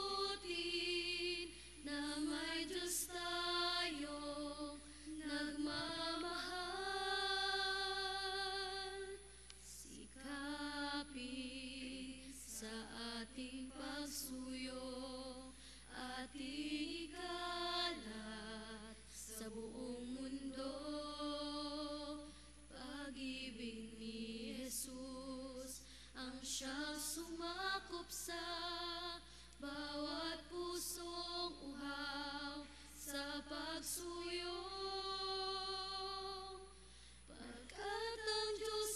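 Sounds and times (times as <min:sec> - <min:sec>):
low electrical hum: 0:00.0 - 0:38.9
woman singing a hymn: 0:00.0 - 0:38.9.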